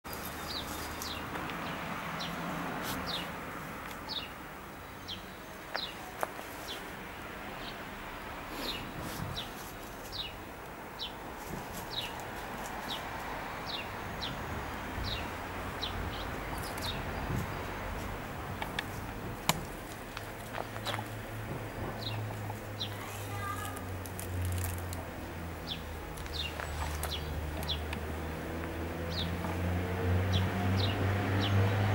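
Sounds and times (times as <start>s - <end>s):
outdoor background noise: 0.0s - 31.9s.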